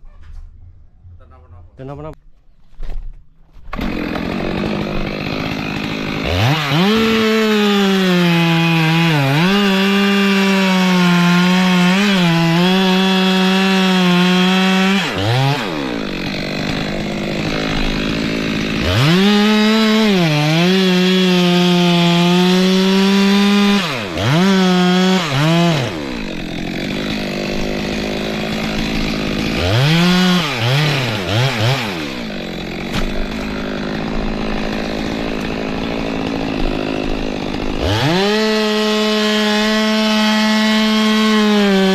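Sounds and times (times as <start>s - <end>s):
chainsaw cutting wood: 3.6s - 41.9s
chainsaw throttle blips: 3.7s - 41.9s
chainsaw idling: 3.8s - 41.9s.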